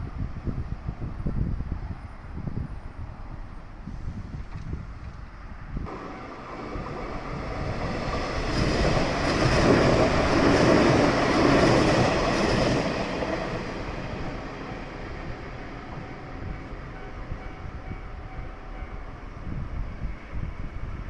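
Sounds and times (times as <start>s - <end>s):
wind buffeting microphone: 0.0s - 21.0s
train passing: 3.0s - 21.0s.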